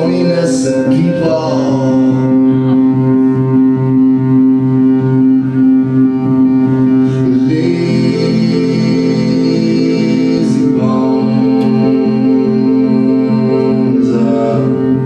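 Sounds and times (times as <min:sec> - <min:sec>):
upright bass line: 0:00.0 - 0:15.0.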